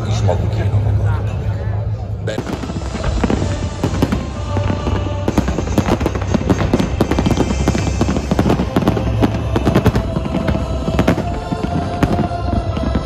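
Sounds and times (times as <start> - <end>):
fireworks bursts and crackling: 2.3 - 13.0.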